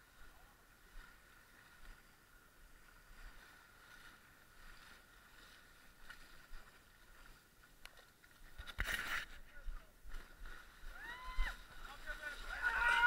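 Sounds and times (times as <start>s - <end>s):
footsteps wading through muddy water: 0.0s - 13.0s.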